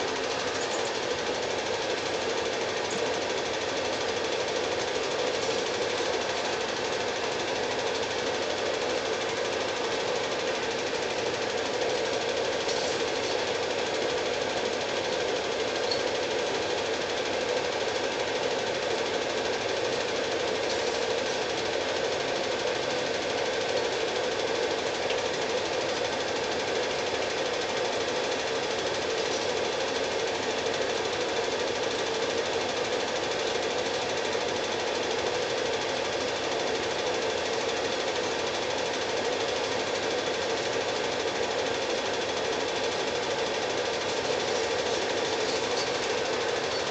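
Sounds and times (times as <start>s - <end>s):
film projector clattering: 0.0s - 46.9s.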